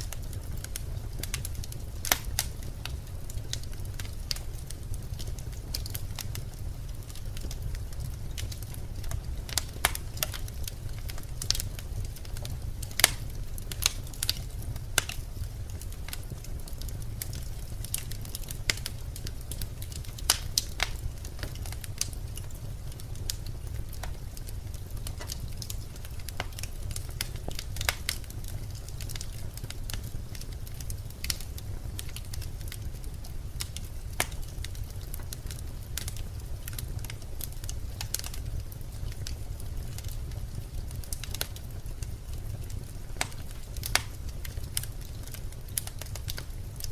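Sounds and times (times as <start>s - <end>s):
flames rumbling: 0.0s - 46.9s
logs crackling and popping: 0.0s - 46.9s.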